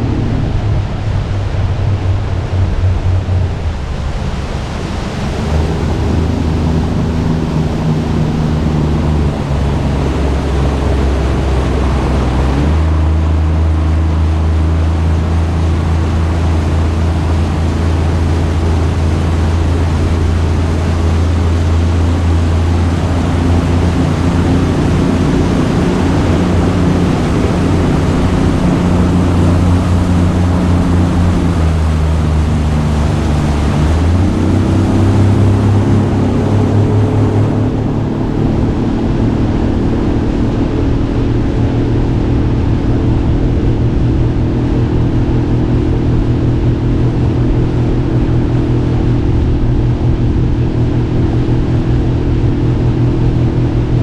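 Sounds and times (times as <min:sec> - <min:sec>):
outboard motor running: 0:00.0 - 0:54.0
rushing water: 0:00.0 - 0:54.0
rushing wind: 0:00.0 - 0:54.0.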